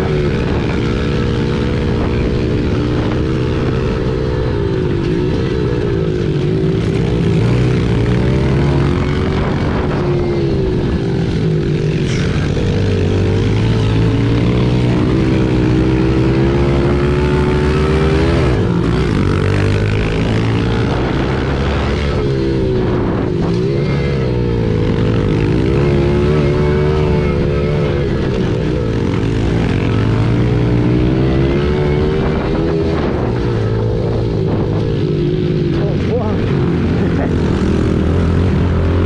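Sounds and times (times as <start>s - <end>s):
motorbike engine revving: 0.0s - 39.0s
wind rushing over microphone: 0.0s - 39.0s.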